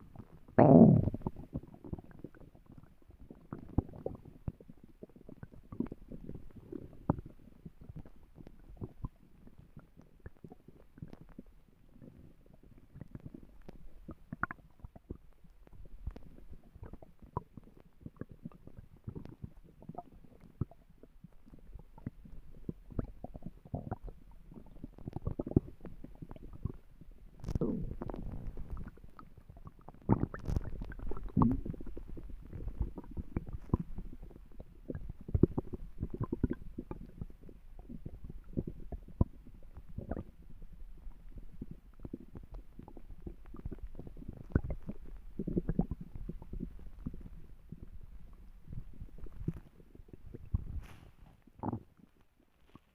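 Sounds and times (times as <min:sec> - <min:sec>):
stomach growling: 0:00.0 - 0:52.9.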